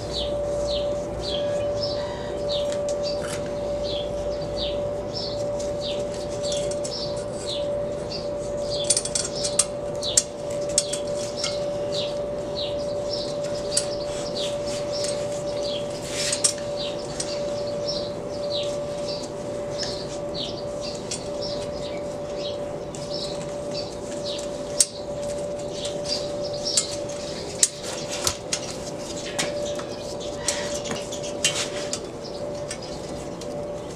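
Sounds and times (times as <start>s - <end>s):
bird chirping: 0.0s - 31.4s
steady hum: 0.0s - 33.9s.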